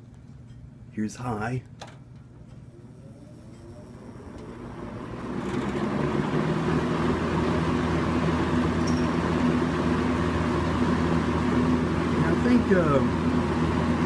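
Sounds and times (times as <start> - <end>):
box fan motor hum: 0.0 - 14.0
fan air rushing: 0.0 - 14.0.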